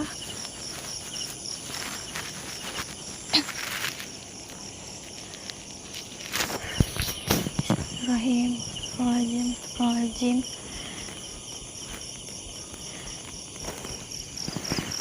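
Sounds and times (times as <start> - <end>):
crickets chirping: 0.0 - 15.0
faint clicks and rustles: 0.0 - 15.0.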